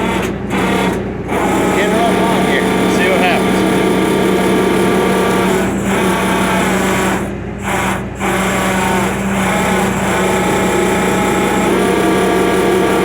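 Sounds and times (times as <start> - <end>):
truck engine and winch whine: 0.0 - 13.0.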